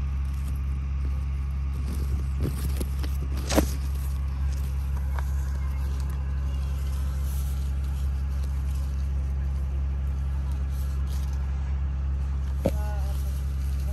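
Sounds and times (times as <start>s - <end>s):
leaves and branches rustling: 0.0s - 13.9s
steady low rumble: 0.0s - 13.9s.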